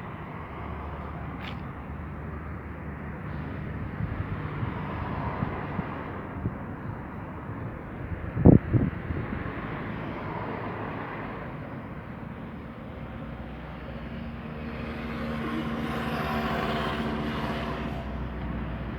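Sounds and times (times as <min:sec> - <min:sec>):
engine hum: 0:00.0 - 0:18.9.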